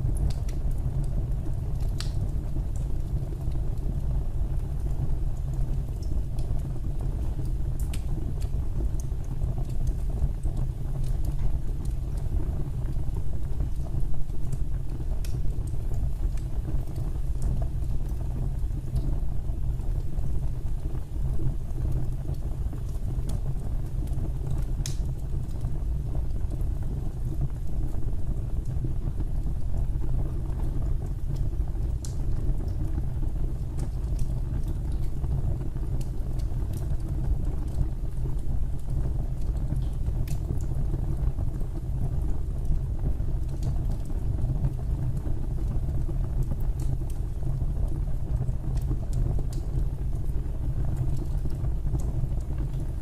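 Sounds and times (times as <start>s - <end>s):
fire crackling and popping: 0.0s - 53.0s
fire rumbling: 0.0s - 53.0s.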